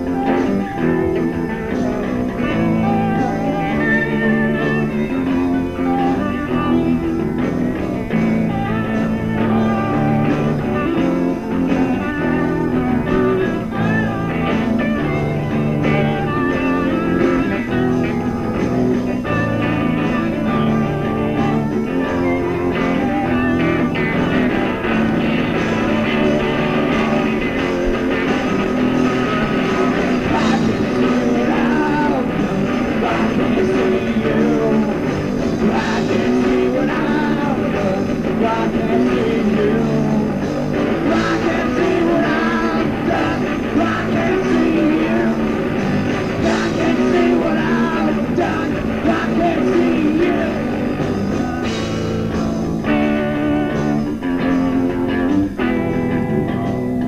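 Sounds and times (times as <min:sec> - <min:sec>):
person singing: 0:00.0 - 0:56.6
bass guitar: 0:00.0 - 0:57.0
drums: 0:00.0 - 0:57.0
electric guitars: 0:00.0 - 0:57.0.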